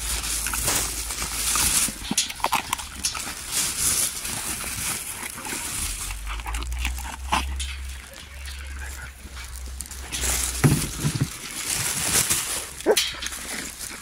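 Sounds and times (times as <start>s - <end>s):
dogs scuffling and rustling: 0.0s - 14.0s.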